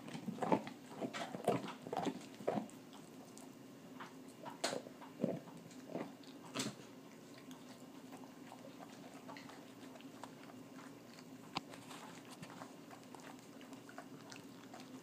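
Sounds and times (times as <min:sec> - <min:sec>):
dog chewing a bone: 0:00.0 - 0:15.0.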